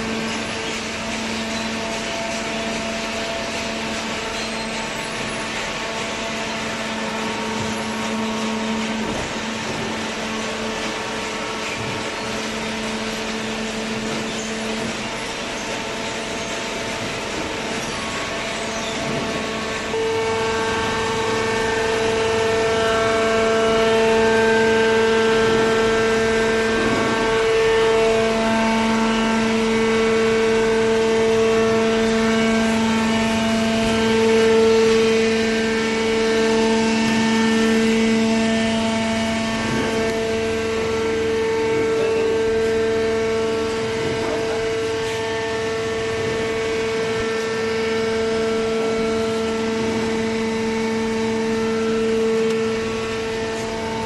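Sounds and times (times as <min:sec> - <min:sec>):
baling machine hum and whine: 0:00.0 - 0:54.0.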